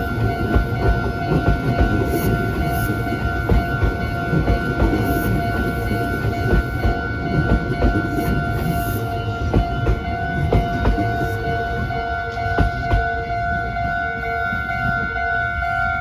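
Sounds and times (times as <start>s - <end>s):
crossing warning bell ringing: 0.0s - 16.0s
electric train rumbling past: 0.0s - 16.0s.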